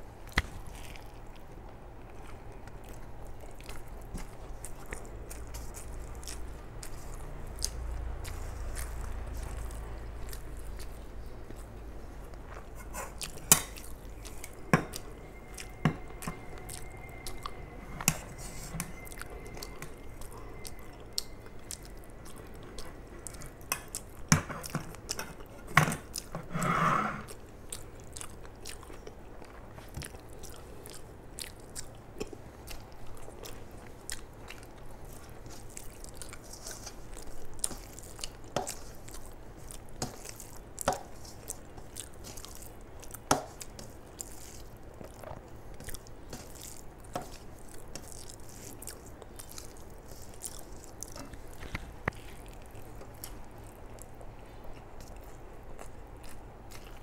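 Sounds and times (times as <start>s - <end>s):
person chewing with lip smacks: 0.3s - 25.3s, 27.3s - 57.0s.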